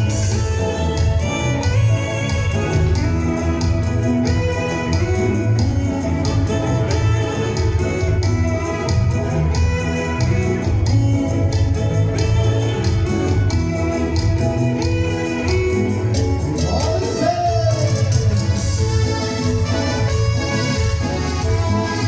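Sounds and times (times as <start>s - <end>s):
dance music with guitar: 0.0s - 22.0s.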